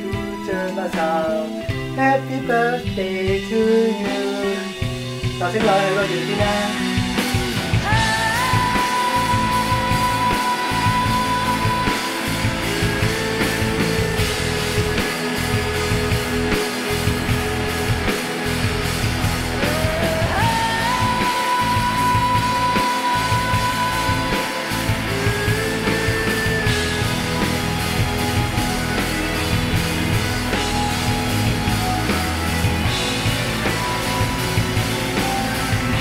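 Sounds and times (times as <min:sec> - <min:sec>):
song with sliding held notes: 0:00.0 - 0:36.0.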